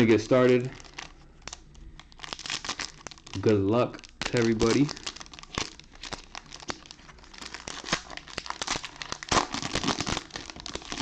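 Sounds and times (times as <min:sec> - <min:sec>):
wrapper tearing and crinkling: 0:00.0 - 0:11.0.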